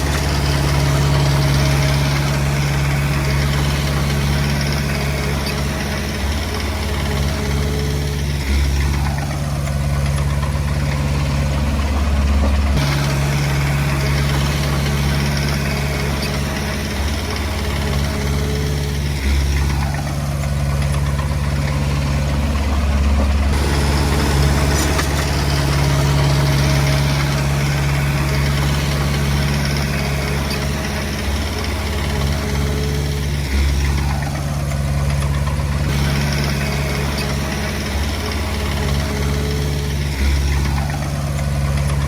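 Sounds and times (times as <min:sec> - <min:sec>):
bulldozer diesel engine working: 0:00.0 - 0:42.0.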